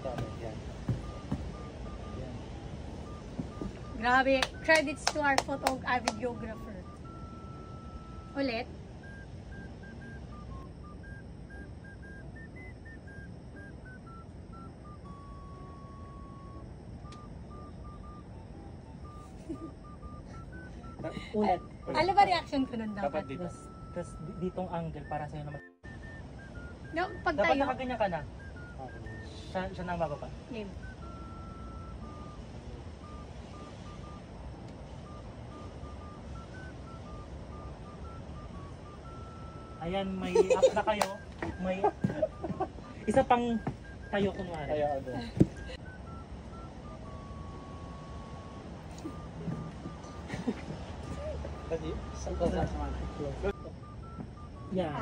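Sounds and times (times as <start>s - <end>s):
steady low rumble: 0.0s - 52.4s
electronic beeping tune: 0.0s - 55.0s
low background hum: 0.0s - 55.0s.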